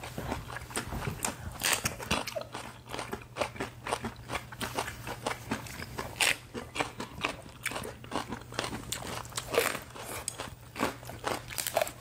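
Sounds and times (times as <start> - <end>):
crunching chili peppers: 0.0 - 12.0.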